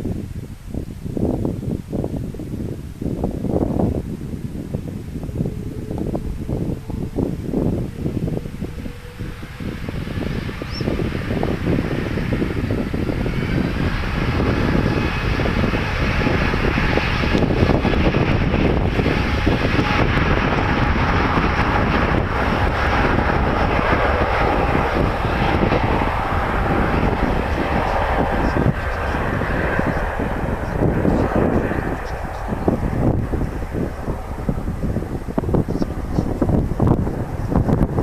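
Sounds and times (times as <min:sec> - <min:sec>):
faint engine whine: 0:00.0 - 0:38.0
jet engines running: 0:00.0 - 0:38.0.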